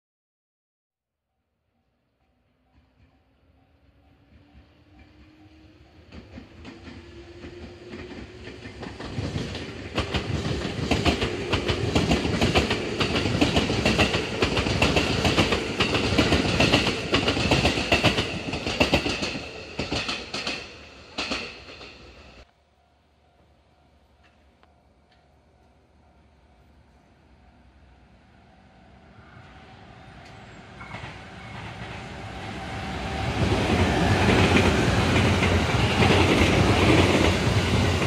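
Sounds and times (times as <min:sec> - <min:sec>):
electric train passing: 0:01.6 - 0:38.0.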